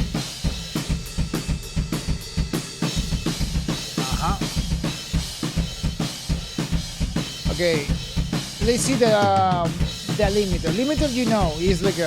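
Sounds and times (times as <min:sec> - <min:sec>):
drum kit playing fast beat: 0:00.0 - 0:12.0.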